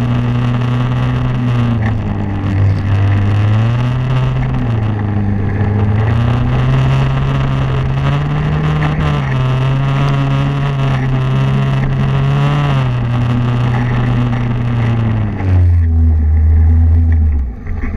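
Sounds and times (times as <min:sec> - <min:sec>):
snowmobile engine running: 0:00.0 - 0:17.9.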